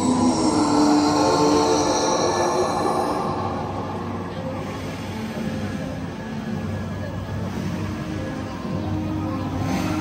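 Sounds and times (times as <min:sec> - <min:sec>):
eerie background music: 0:00.0 - 0:10.0.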